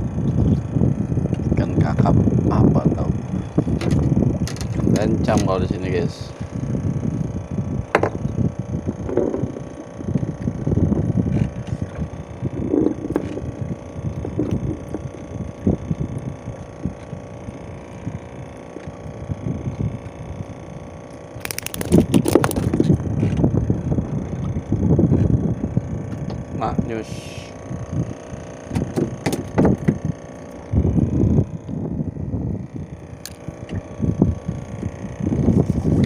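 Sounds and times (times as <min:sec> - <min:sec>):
boat engine humming: 0:00.0 - 0:36.0
wind gusts on microphone: 0:00.0 - 0:36.0.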